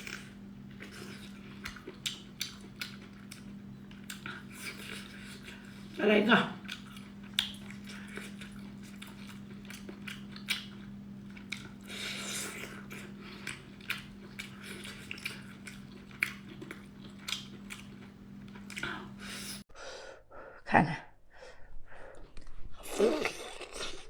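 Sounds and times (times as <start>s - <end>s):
person chewing: 0.0s - 6.0s, 6.6s - 19.6s, 22.3s - 24.0s
steady low hum: 0.0s - 24.0s.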